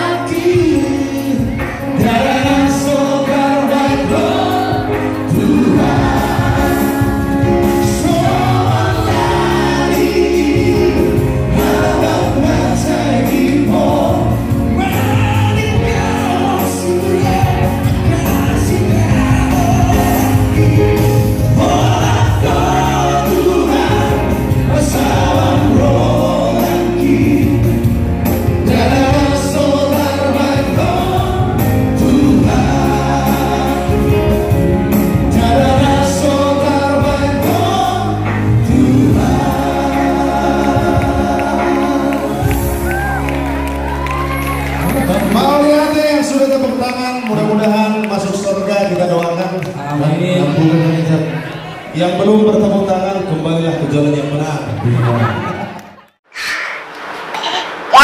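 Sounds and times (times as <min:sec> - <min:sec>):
male trio singing in harmony: 0:00.0 - 0:46.6
bass line accompaniment: 0:00.0 - 0:48.4.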